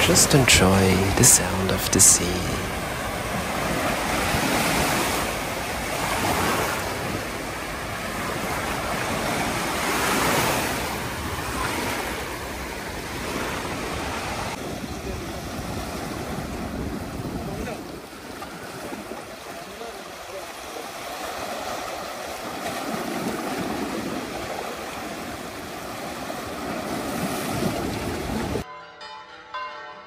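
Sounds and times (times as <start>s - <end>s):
waves washing among rocks: 0.0s - 28.6s
waves washing over shingle beach: 0.0s - 28.6s.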